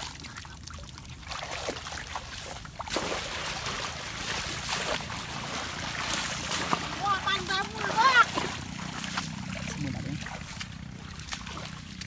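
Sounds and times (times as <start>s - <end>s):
muddy water sloshing and splashing: 0.0s - 12.0s.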